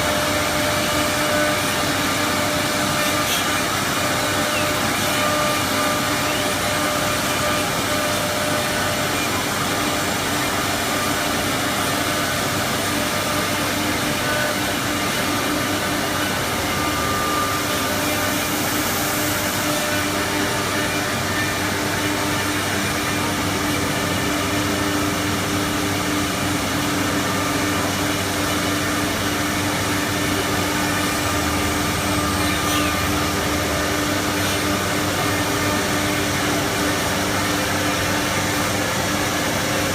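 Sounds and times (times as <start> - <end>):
router hiss and hum: 0.0 - 39.9.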